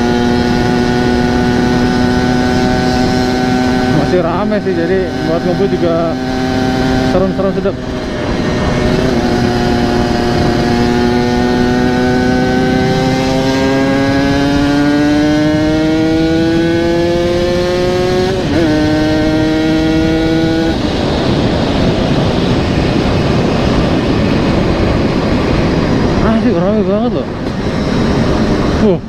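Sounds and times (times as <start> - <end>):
motorcycle engine running: 0.0 - 29.0
rushing road noise: 0.0 - 29.0.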